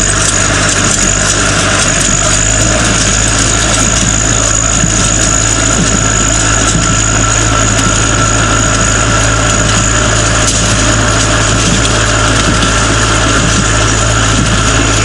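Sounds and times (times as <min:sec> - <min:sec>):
hay baler running: 0:00.0 - 0:15.0
tractor engine under load: 0:00.0 - 0:15.0.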